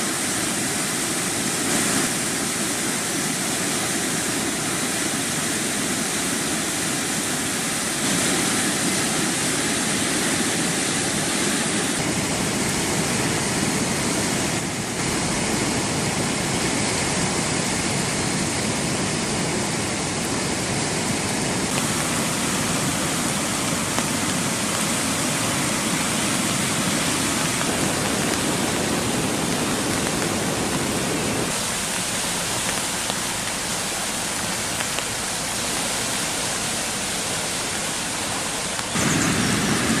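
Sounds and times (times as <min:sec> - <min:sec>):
flooded river rushing: 0:00.0 - 0:40.0.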